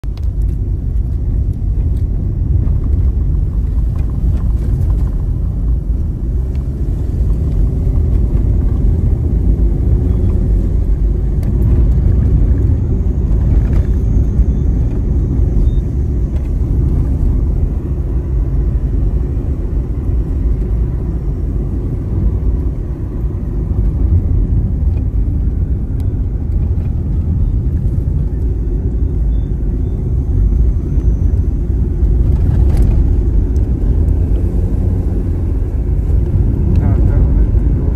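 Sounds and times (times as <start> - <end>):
car engine and tyre noise: 0.0 - 37.9.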